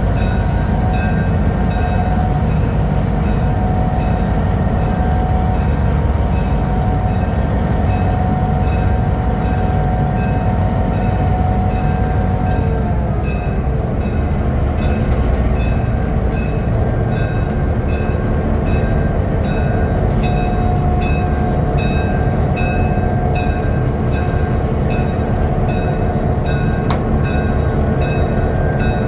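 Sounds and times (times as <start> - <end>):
crossing warning bell dinging: 0.0 - 29.0
train rolling past: 0.0 - 29.0.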